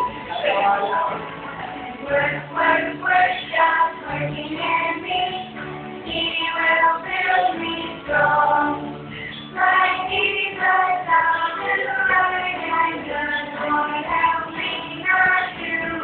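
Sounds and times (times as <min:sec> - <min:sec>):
backing track: 0:00.0 - 0:16.0
high voice singing: 0:02.0 - 0:16.0.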